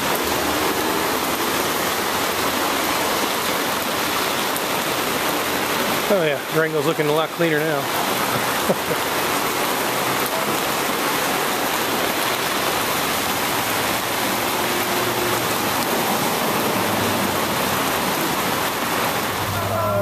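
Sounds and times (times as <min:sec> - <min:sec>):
light rain on pavement and vehicles: 0:00.0 - 0:20.0.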